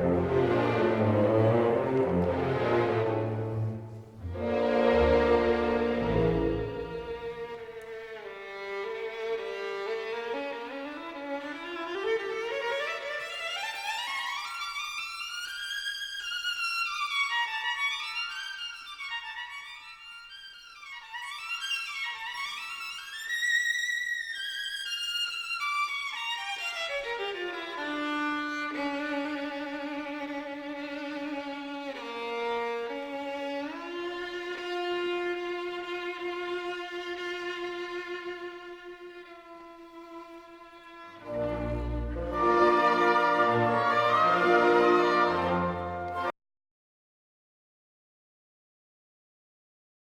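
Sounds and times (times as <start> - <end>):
violin playing slow melody: 0.0 - 23.4, 24.6 - 46.3.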